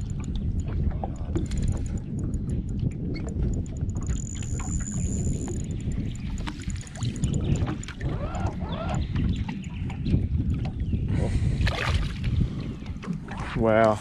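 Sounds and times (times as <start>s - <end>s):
water splashing against a boat hull: 0.0s - 10.9s, 11.6s - 14.0s
wind rumbling on microphone: 0.0s - 14.0s.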